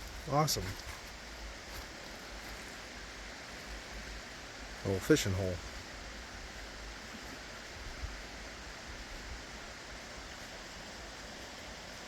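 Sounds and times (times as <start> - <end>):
creek flowing: 0.0 - 12.0.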